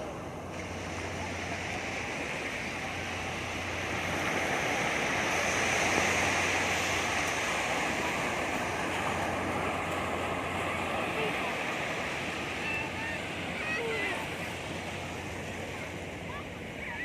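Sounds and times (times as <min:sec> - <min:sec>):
sea surf rushing onto beach: 0:00.0 - 0:17.0.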